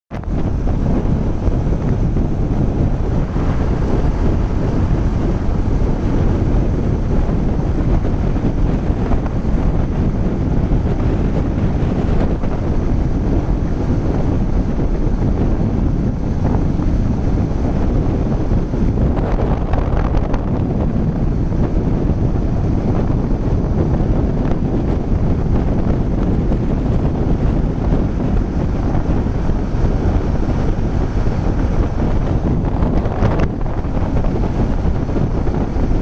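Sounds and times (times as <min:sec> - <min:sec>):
road and engine noise: 0:00.1 - 0:36.0
wind buffeting microphone: 0:00.1 - 0:36.0.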